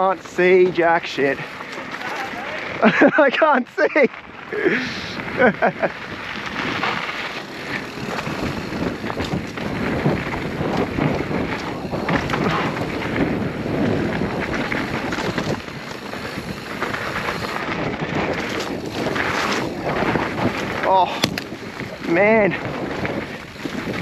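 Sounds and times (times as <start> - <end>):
bike rattling and knocking: 0.0 - 24.0
bike tyres rolling on dirt: 0.0 - 24.0
wind noise on microphone: 4.0 - 24.0.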